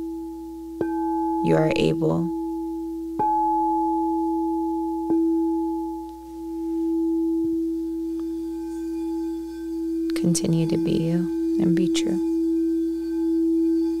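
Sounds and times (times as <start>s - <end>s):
singing bowl ringing: 0.0s - 14.0s.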